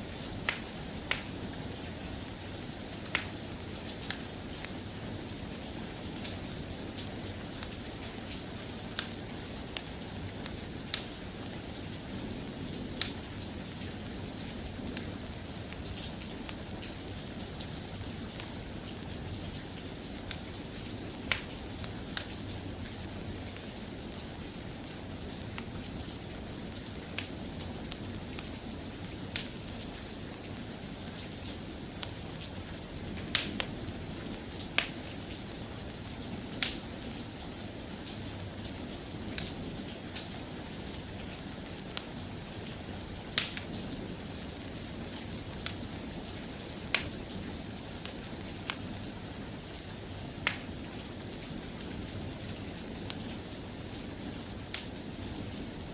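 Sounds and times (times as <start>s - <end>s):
soft rain hiss: 0.0s - 55.9s.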